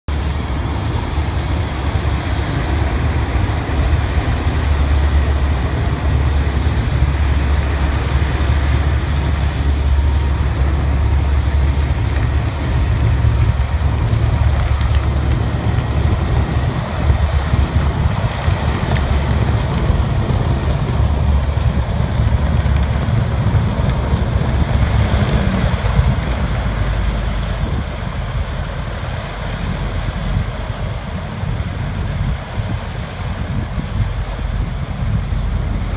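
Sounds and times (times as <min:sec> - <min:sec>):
hovercraft engine drone: 0:00.1 - 0:35.9.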